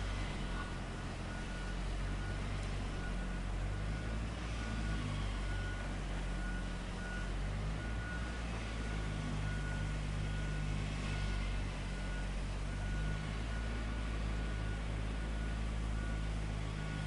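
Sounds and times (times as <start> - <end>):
heavy vehicle engine running: 0.0 - 17.0
reversing alarm beeping: 3.0 - 17.0.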